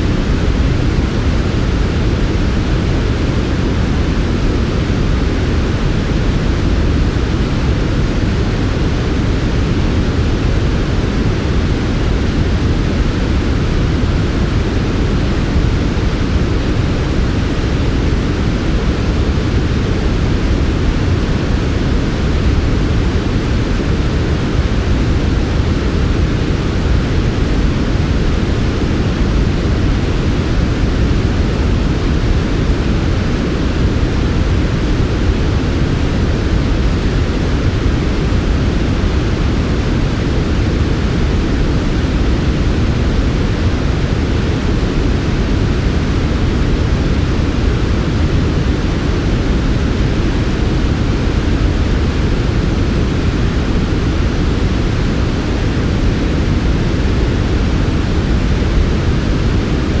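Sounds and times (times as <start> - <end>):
steady white noise hiss: 0.0 - 60.0.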